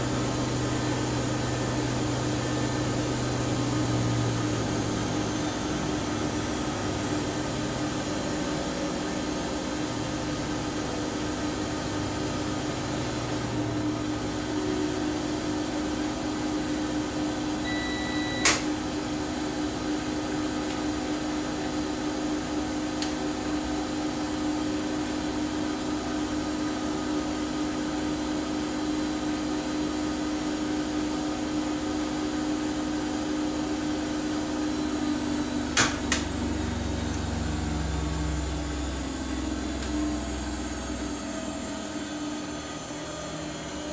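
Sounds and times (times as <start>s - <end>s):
washing machine running: 0.0s - 43.9s.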